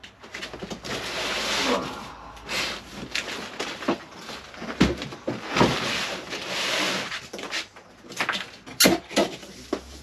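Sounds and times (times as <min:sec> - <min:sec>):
cardboard scraping and rustling: 0:00.2 - 0:10.0.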